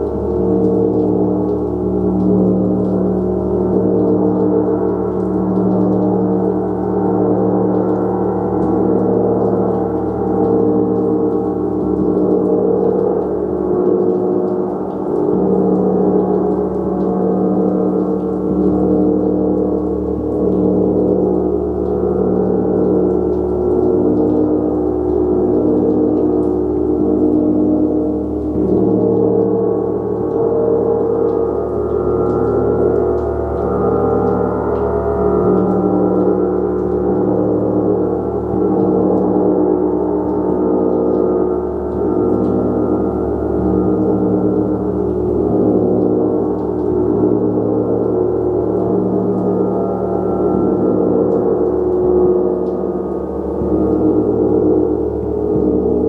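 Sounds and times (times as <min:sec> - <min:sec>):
gong ringing: 0:00.0 - 0:56.0.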